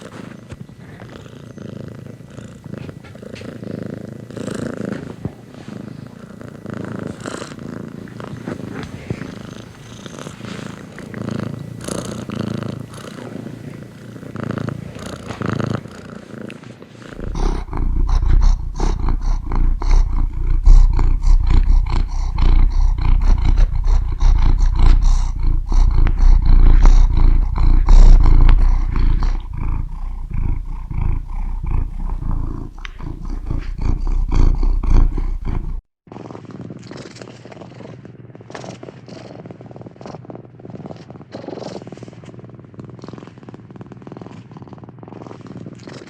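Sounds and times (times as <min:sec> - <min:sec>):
cat purring: 0:00.0 - 0:46.0.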